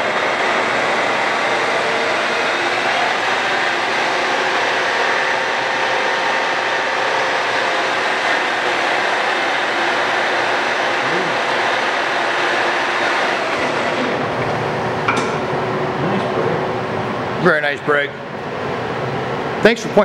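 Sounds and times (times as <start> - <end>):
lathe mechanical whir: 0.0 - 17.5.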